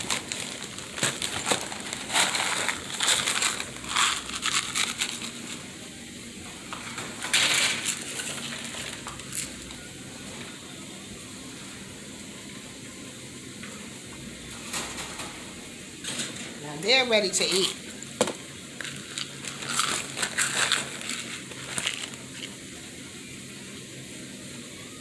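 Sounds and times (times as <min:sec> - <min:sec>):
cage rustling and clattering: 0:00.0 - 0:12.5, 0:13.4 - 0:22.6.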